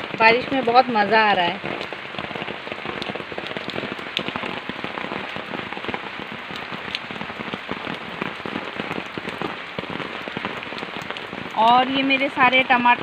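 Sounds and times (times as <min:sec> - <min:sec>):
rain falling on plants: 0:00.0 - 0:13.0.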